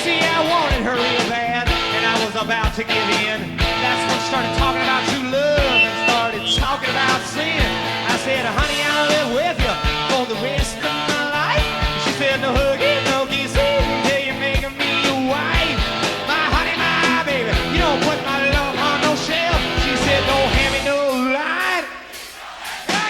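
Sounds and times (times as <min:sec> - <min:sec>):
electric guitars: 0:00.0 - 0:21.1
steady drum beat: 0:00.0 - 0:21.3
live rock band playing: 0:00.0 - 0:21.4
sung vocals: 0:00.0 - 0:23.0.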